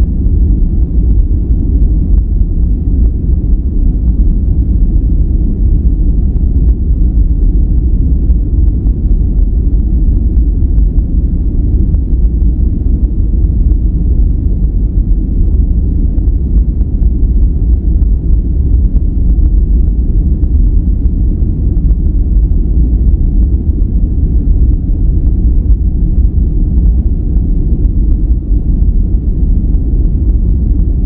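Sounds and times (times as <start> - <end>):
deep rumbling white noise: 0.0 - 31.0.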